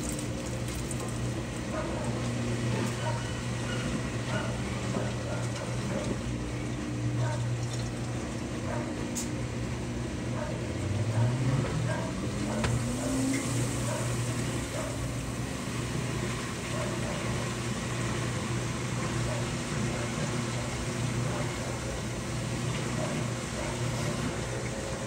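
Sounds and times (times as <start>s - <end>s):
washing machine motor whine: 0.0s - 25.0s.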